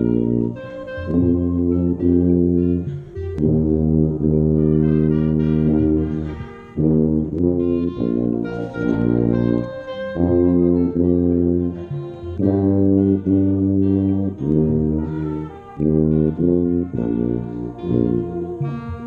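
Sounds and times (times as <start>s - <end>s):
low tuba notes: 0.0s - 19.0s
marching band brass chords: 0.0s - 19.0s.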